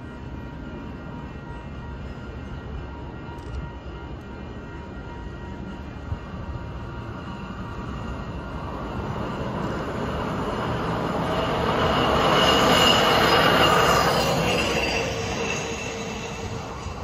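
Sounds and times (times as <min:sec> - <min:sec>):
high steady tone: 0:00.0 - 0:17.0
truck running on rails: 0:00.0 - 0:17.0.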